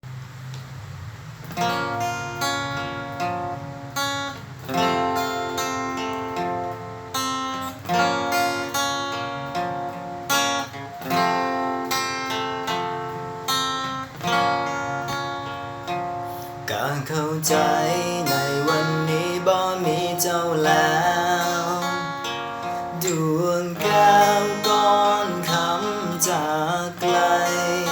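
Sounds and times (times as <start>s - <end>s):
acoustic guitar strumming chords: 1.4s - 27.9s.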